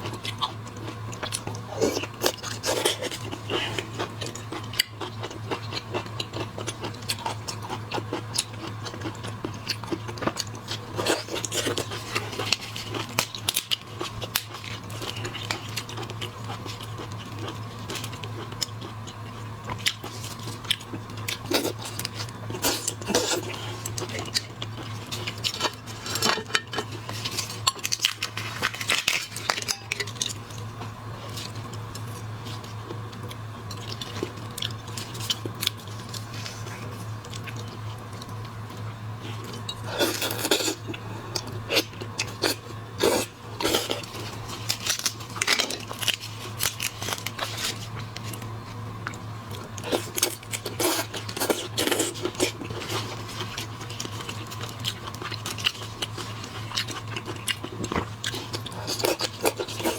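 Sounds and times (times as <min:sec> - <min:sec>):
chewing and crunching shellfish: 0:00.0 - 0:59.9
steady low hum: 0:00.0 - 0:59.9.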